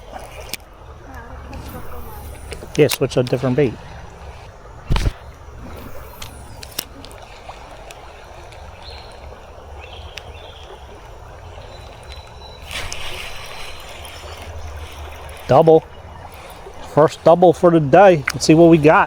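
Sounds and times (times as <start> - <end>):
creek water flowing and trickling: 0.0 - 19.0.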